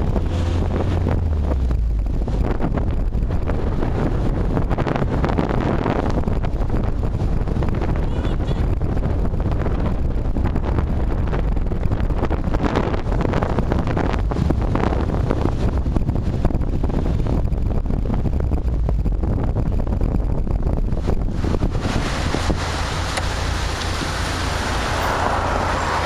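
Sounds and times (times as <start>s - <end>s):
gusty wind buffeting microphone: 0.0s - 26.0s.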